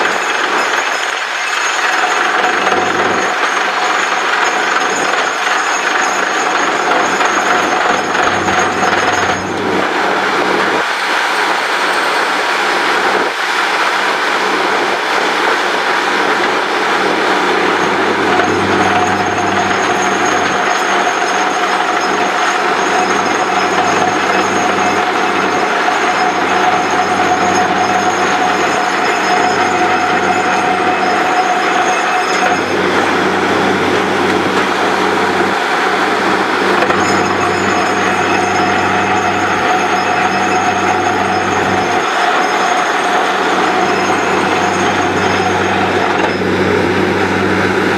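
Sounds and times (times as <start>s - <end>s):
drilling rig clatter and rumble: 0.0s - 47.9s
machine whine: 0.0s - 47.9s.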